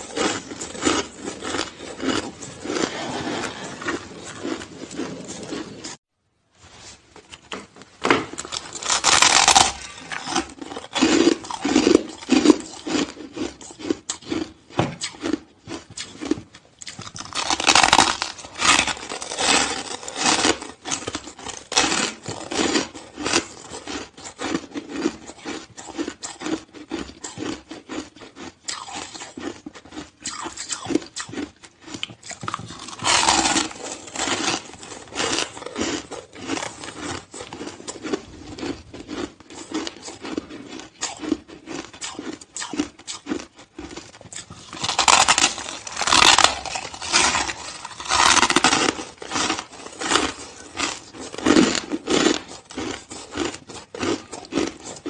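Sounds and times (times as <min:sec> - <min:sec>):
person chewing crunchy ice: 0:00.0 - 0:06.0, 0:08.2 - 0:55.0.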